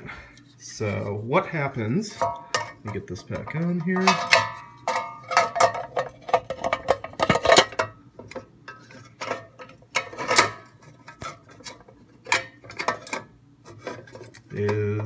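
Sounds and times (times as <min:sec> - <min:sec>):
metallic clanks and clicks: 0:02.2 - 0:14.8.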